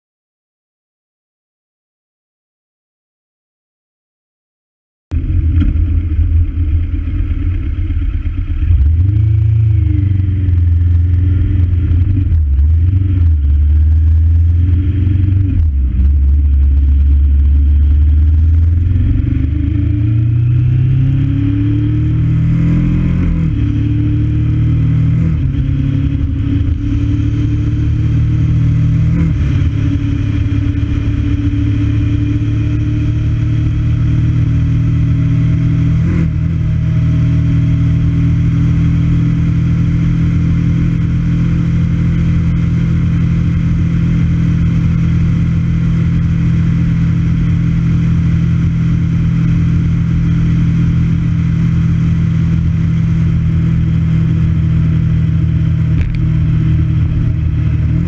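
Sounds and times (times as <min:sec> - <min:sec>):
road and wind rumble: 0:05.1 - 0:58.0
vehicle engine accelerating: 0:05.1 - 0:58.0.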